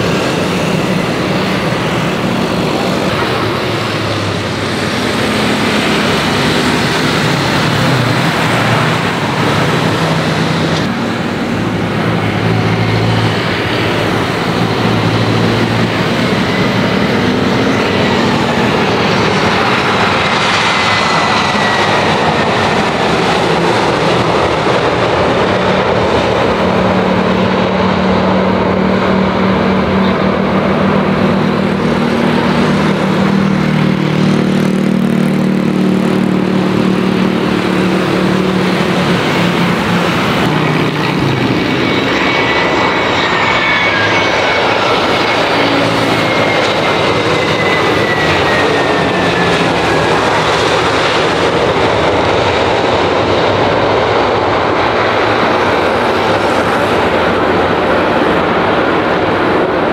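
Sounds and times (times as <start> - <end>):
high whines falling in pitch: 0.0 - 53.3
jet engines running: 0.0 - 59.9.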